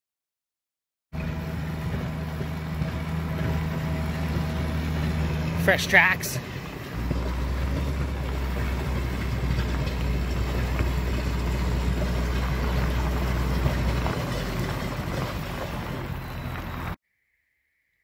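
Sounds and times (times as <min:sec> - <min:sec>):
bike tyres on gravel: 0:01.2 - 0:17.0
diesel engine drone: 0:01.2 - 0:17.0.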